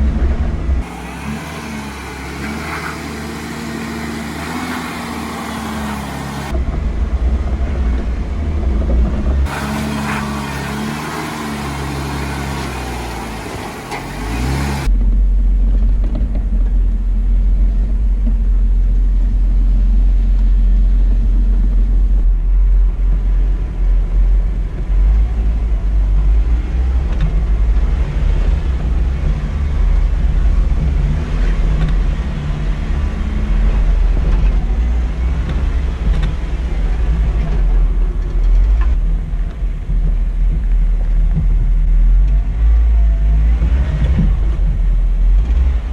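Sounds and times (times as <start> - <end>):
engine running at low revs: 0.0 - 45.9
heavy low rumble: 0.0 - 45.9.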